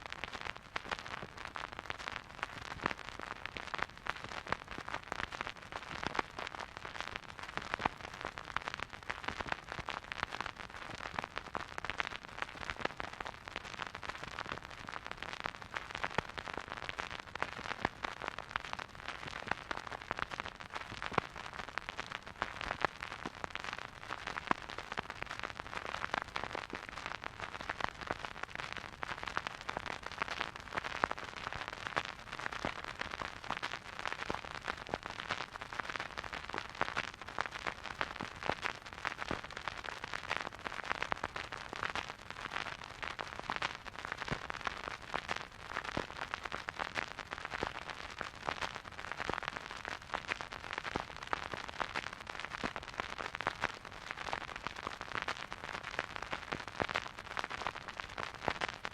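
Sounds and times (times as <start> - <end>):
vinyl record crackles and pops: 0.0 - 58.9.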